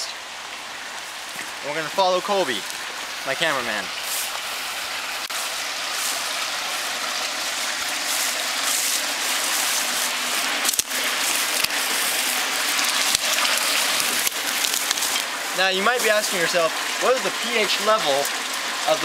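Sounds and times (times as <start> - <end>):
hiss of water: 0.0 - 19.0.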